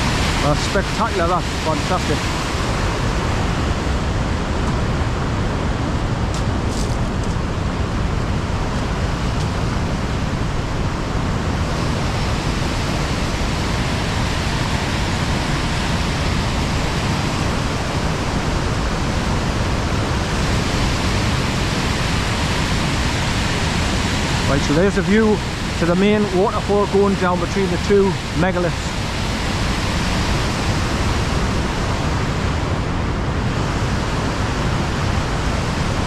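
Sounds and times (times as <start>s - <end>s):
waterfall rushing: 0.0s - 6.3s, 7.5s - 36.0s.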